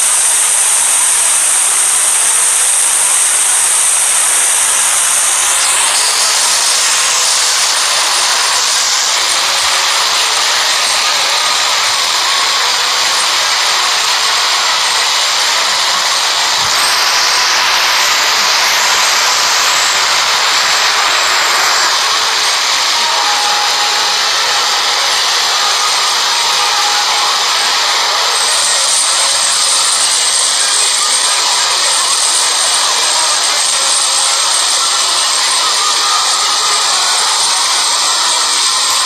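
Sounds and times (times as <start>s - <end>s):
loud rushing hiss: 0.0s - 39.0s.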